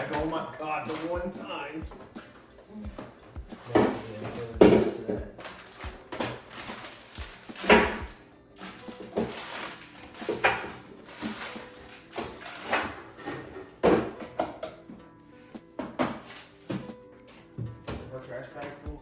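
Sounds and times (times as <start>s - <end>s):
household items clattering: 0.0s - 18.9s.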